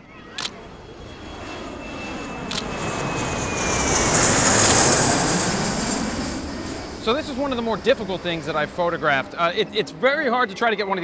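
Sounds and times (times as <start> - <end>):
thin falling engine whine: 0.0 - 10.9
jet aircraft flying past: 0.0 - 11.0.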